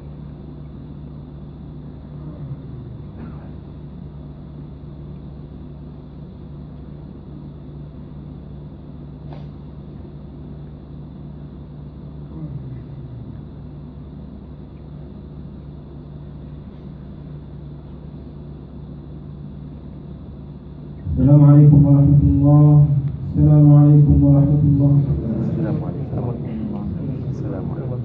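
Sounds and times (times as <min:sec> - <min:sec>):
low hum and rumble: 0:00.0 - 0:28.0.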